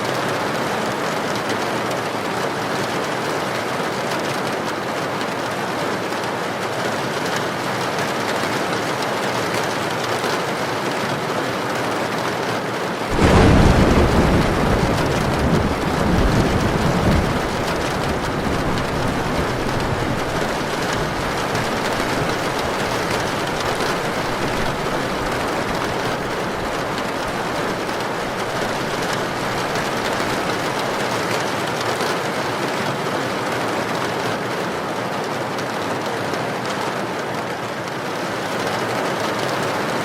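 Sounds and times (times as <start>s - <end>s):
heavy rain: 0.0s - 40.0s
wind: 0.0s - 40.0s.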